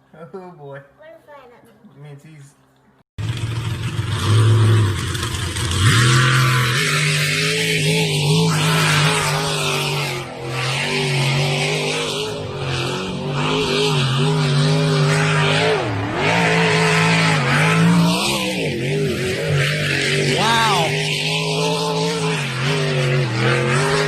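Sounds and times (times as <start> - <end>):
engine running: 3.2 - 24.0.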